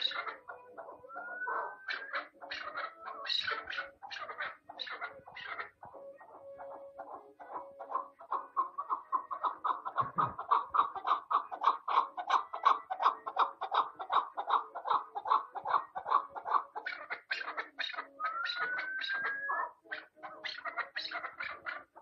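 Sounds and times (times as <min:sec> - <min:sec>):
partridge clucking call: 0:00.0 - 0:22.0.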